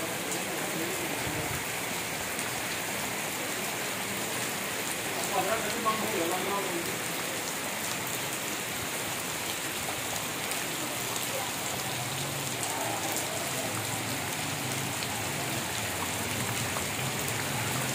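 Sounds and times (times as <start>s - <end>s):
steady rain falling: 0.0s - 17.9s.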